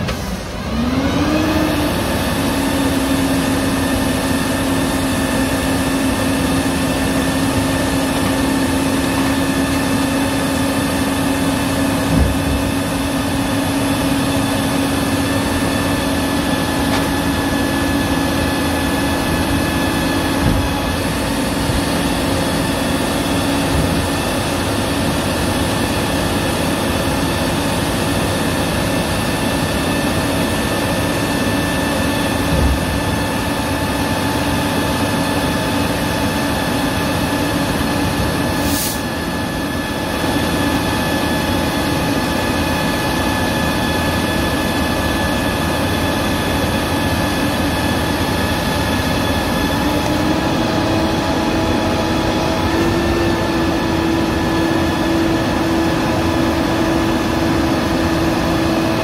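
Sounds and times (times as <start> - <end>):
steady whine: 0.0 - 59.0.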